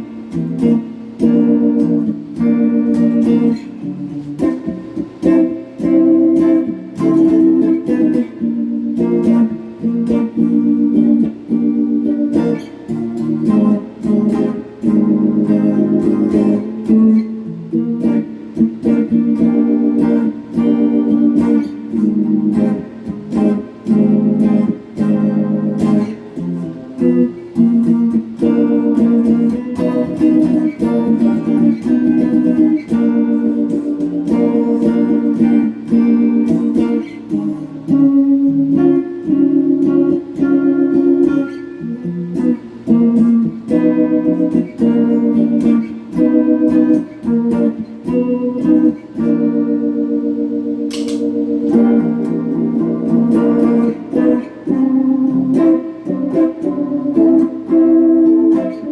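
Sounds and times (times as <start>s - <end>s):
electric guitar chords and notes: 0.0s - 58.9s.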